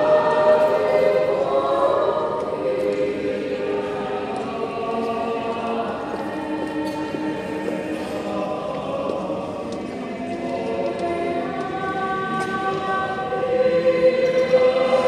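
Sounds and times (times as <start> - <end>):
choir singing chords: 0.0 - 15.0.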